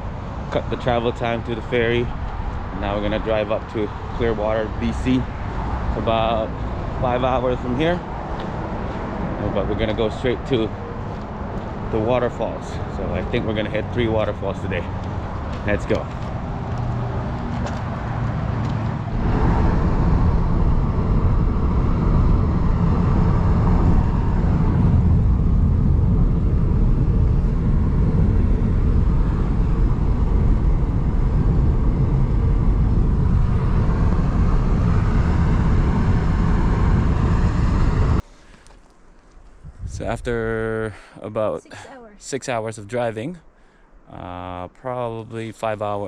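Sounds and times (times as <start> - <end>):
road and wind noise: 0.0 - 46.0.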